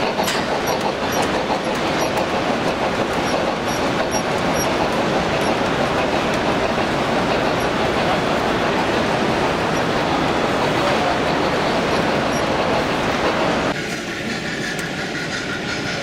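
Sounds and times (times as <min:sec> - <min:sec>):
hall hubbub: 0:00.0 - 0:13.8
wheels clicking over rail joints: 0:00.0 - 0:13.8
model train running on track: 0:00.0 - 0:16.0.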